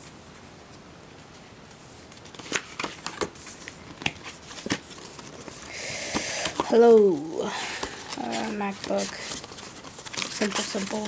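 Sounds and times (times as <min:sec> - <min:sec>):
cardboard rustles and scrapes: 0:01.7 - 0:11.0.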